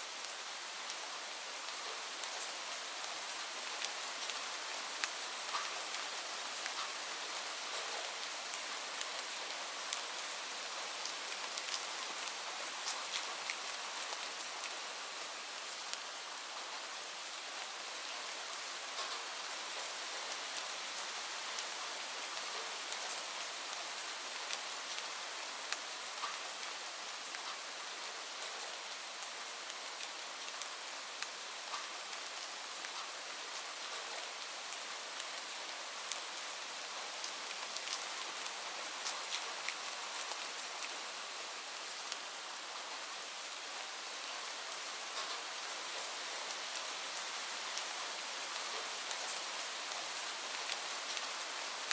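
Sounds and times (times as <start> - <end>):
rain pattering on leaves: 0.0 - 51.9.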